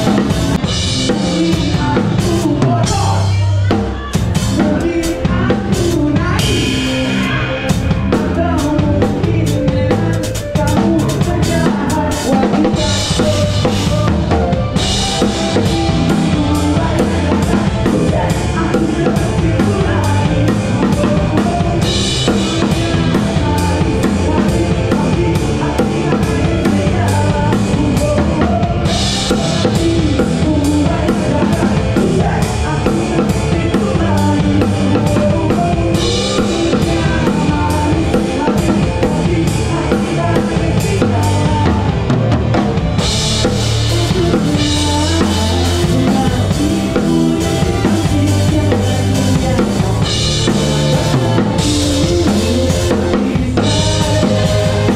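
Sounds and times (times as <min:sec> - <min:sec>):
drum kit groove: 0:00.0 - 0:54.9.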